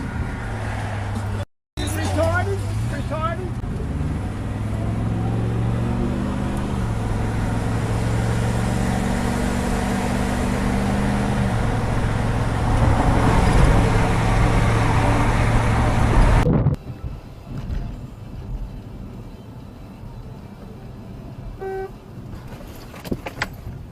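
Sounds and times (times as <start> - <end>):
road noise: 0.0 - 23.9
vehicle engine hum: 0.0 - 23.9.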